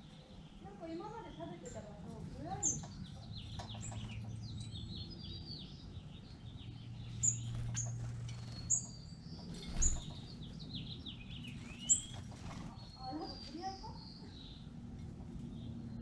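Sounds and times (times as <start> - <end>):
low steady hum: 0.0 - 16.0
songbirds chirping: 0.0 - 16.0.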